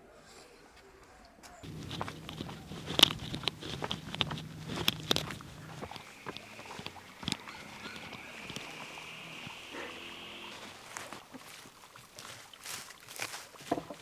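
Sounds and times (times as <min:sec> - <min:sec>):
footsteps through vegetation: 0:01.6 - 0:14.0
short clicks and crackles: 0:01.6 - 0:14.0.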